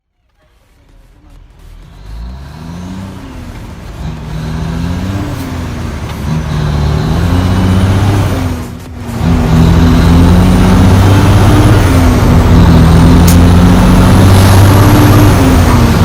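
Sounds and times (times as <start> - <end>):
truck diesel engine braking: 1.8 - 16.0.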